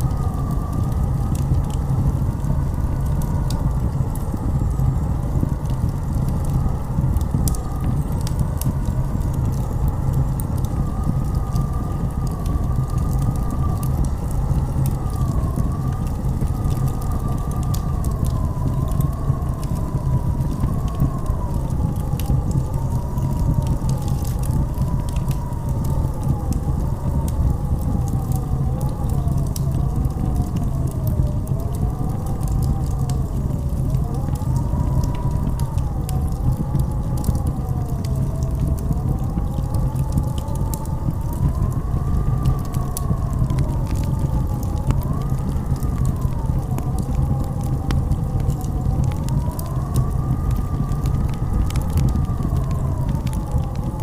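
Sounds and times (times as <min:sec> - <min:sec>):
howling blizzard wind: 0:00.0 - 0:54.0
light crackles and ticks: 0:00.0 - 0:54.0.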